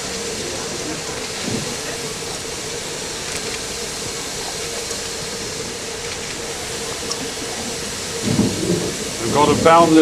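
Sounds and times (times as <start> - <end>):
steam locomotive hissing: 0.0 - 10.0.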